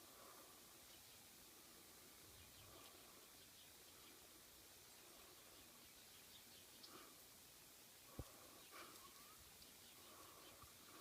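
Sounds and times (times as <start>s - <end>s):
microphone hiss: 0.0s - 11.0s.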